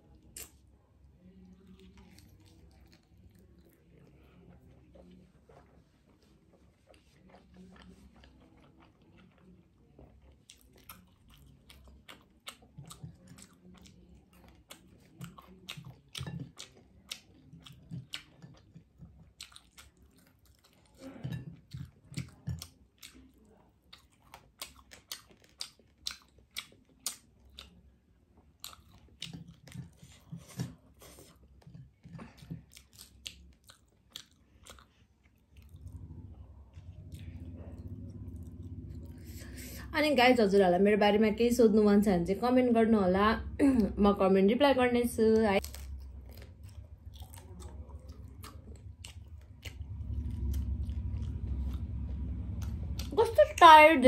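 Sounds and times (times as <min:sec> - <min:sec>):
person chewing noodles: 0:01.2 - 0:39.8, 0:45.6 - 0:53.2.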